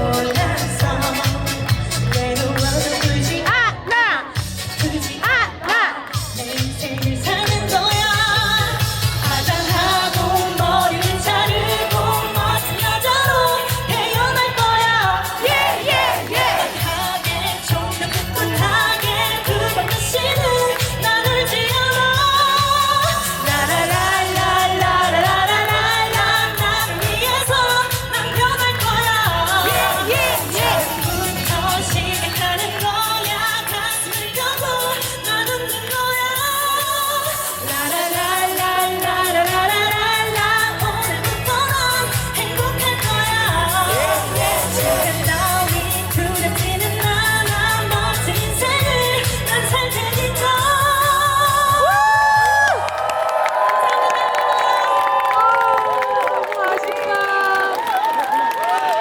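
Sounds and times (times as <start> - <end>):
pop backing track with beat: 0.0 - 52.8
woman singing lead vocal: 0.0 - 52.9, 54.7 - 59.0.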